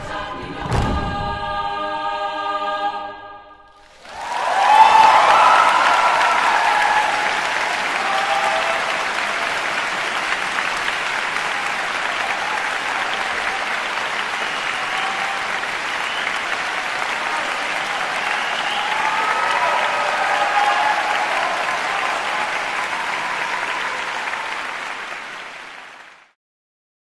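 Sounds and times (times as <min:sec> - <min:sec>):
audience applauding: 0:03.8 - 0:26.4.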